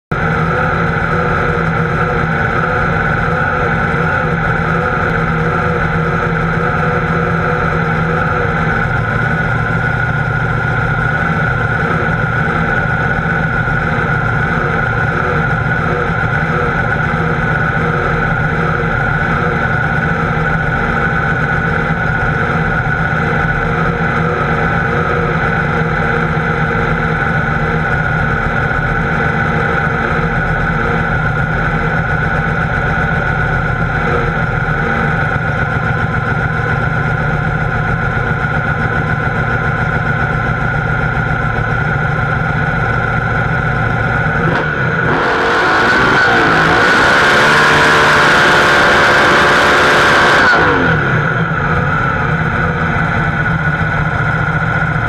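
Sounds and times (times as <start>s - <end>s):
drag car engine idling: 0.1s - 55.0s.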